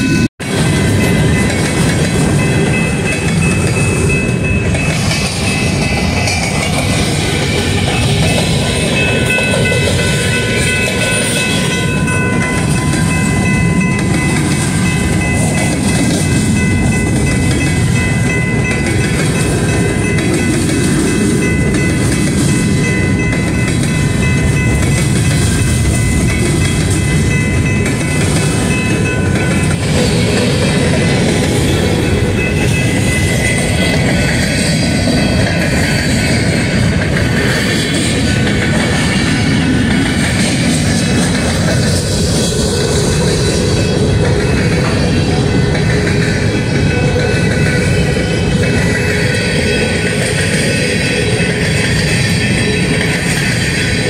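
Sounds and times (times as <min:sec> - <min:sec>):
high ringing tones: 0:00.0 - 0:54.0
steel train wheels on rails: 0:00.0 - 0:54.0.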